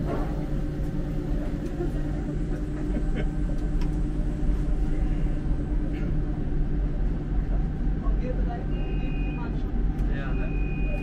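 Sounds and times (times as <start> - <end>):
suspended train rumbling: 0.0 - 11.0.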